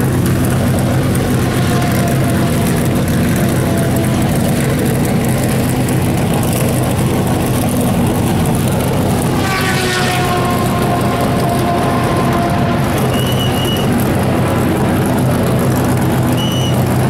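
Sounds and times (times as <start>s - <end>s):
engine accelerating: 0.0s - 17.0s
racing engines droning: 0.0s - 17.0s.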